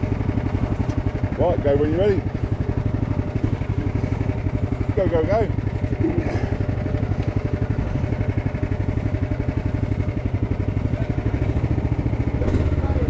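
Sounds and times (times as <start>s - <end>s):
buggy engine running steadily: 0.0s - 13.0s.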